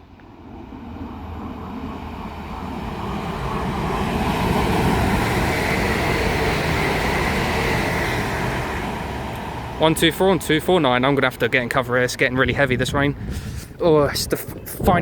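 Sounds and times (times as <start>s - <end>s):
electric train passing at speed: 0.0s - 14.0s.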